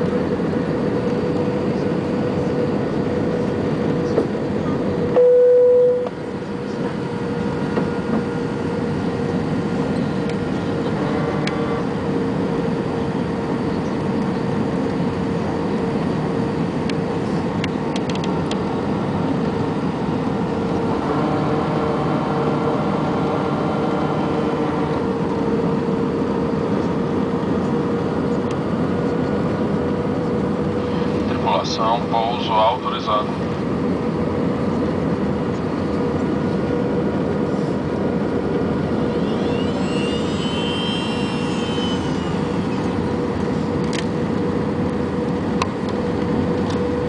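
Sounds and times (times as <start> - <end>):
airliner engine and airflow noise: 0.0 - 47.0.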